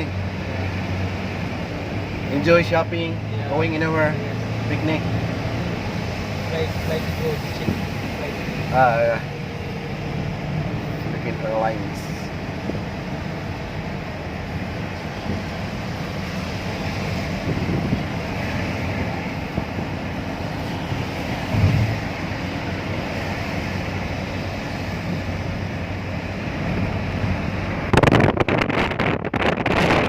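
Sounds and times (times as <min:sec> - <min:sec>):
low engine hum: 0:00.0 - 0:30.0
road and tyre noise: 0:00.0 - 0:30.0
loud rushing noise: 0:04.0 - 0:30.0.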